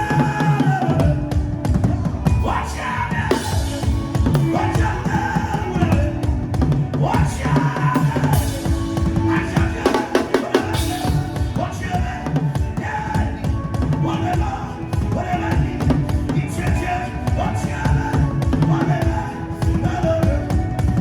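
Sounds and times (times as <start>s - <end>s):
fast busy drums: 0.0s - 21.0s.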